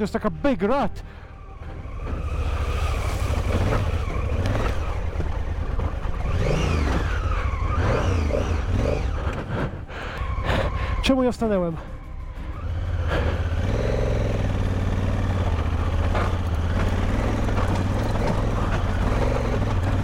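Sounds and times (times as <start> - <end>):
motorcycle engine rumbling: 1.0 - 20.0.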